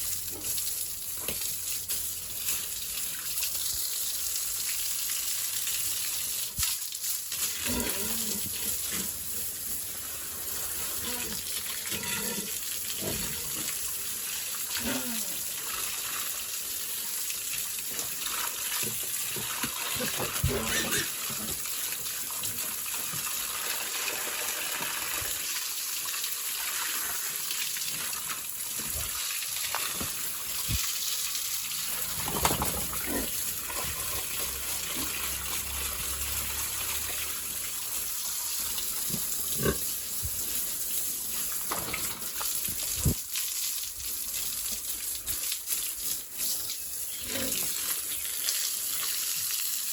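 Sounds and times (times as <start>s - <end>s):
water spraying from hose: 0.0s - 49.9s.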